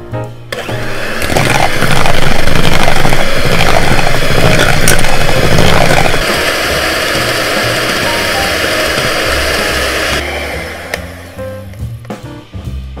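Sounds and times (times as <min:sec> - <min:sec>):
electric hand mixer running: 0:00.5 - 0:11.9.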